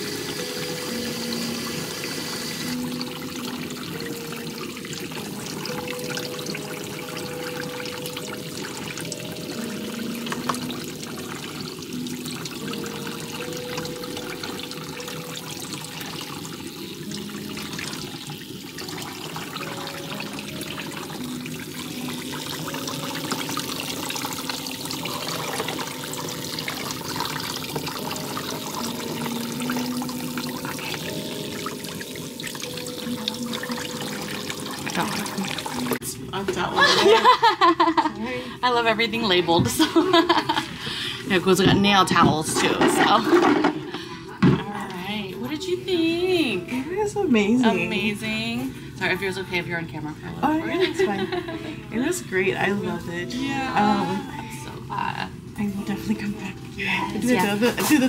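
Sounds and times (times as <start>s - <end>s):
water running into basin: 0.0s - 58.0s.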